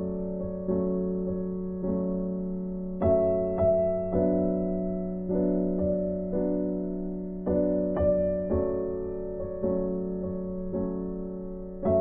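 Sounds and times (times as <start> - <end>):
piano chords ringing: 0.0 - 12.0.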